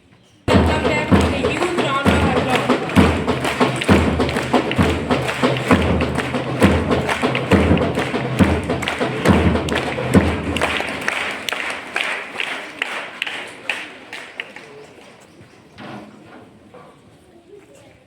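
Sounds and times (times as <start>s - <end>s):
audience applause: 0.5s - 15.2s.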